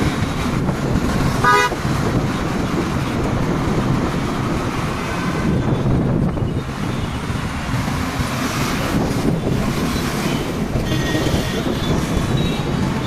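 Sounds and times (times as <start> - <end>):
road and engine noise: 0.0 - 13.0
wind buffeting microphone: 0.0 - 13.0.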